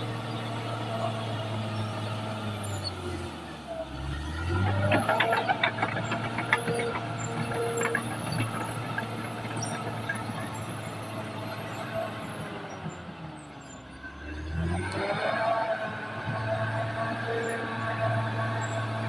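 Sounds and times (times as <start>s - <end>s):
bulldozer diesel engine running: 0.0s - 15.1s, 15.7s - 19.0s.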